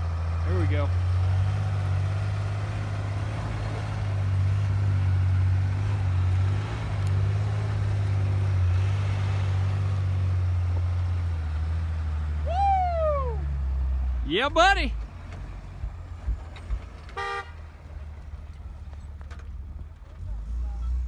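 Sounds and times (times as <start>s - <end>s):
truck engine running under load: 0.0s - 21.0s.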